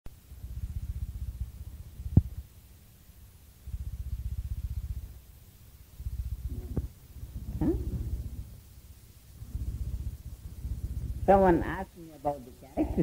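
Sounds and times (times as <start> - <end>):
low throbbing rumble: 0.2 - 2.5, 3.6 - 5.2, 6.0 - 13.0.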